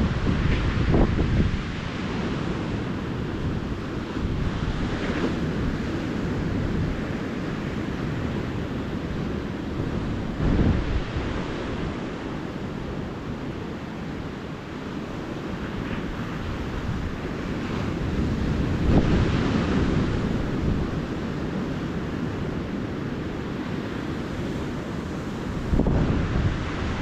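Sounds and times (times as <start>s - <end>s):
ocean surf on a beach: 0.0s - 27.0s
wind on microphone: 0.0s - 27.0s.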